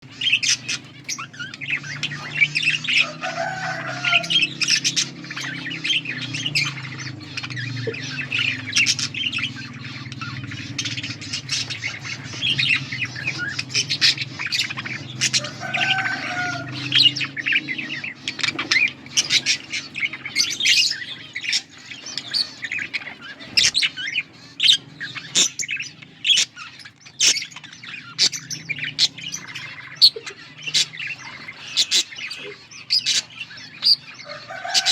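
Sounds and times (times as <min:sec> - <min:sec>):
budgerigars chirping: 0:00.0 - 0:34.9
steady low hum: 0:00.1 - 0:34.3.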